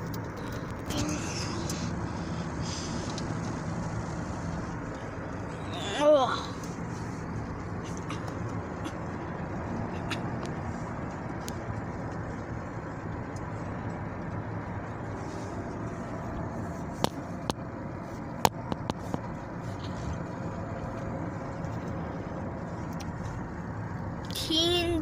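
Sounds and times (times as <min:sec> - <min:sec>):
car rumble: 0:00.0 - 0:25.0.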